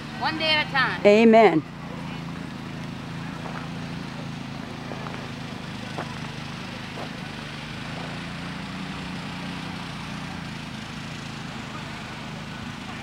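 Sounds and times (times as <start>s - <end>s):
small engine humming: 0.0s - 13.0s.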